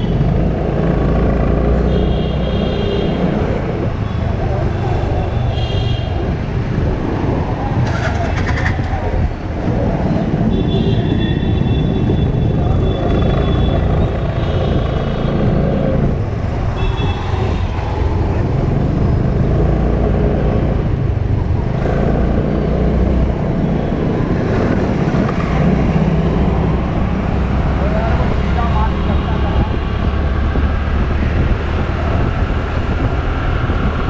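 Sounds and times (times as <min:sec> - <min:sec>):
passing cars and auto-rickshaws: 0:00.0 - 0:34.0
wind rumble on microphone: 0:03.0 - 0:34.0.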